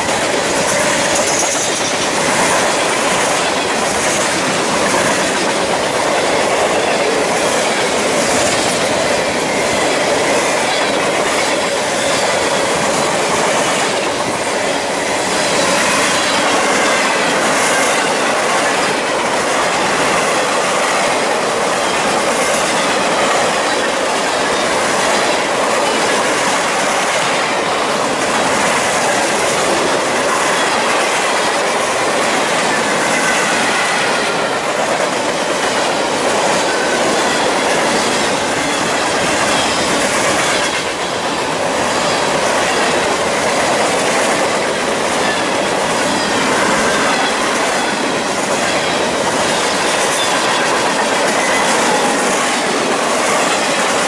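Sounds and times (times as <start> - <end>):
freight cars rolling on rails: 0.0 - 54.0.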